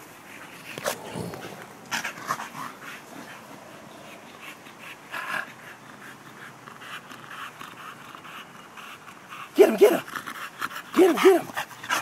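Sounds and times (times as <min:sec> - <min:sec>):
dogs panting: 0:00.0 - 0:12.0.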